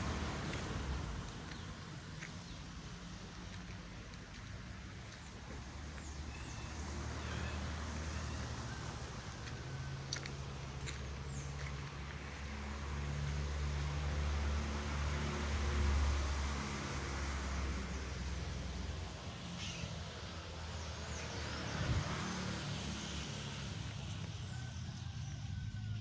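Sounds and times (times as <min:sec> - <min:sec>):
low engine hum: 0:00.0 - 0:26.0
outdoor noise: 0:00.0 - 0:26.0.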